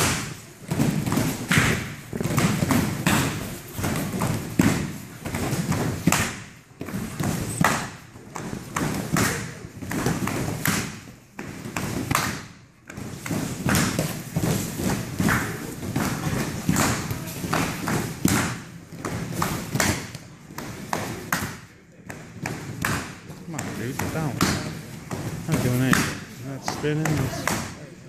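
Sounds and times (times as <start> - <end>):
feet stamping on foam mat: 0.0 - 27.6.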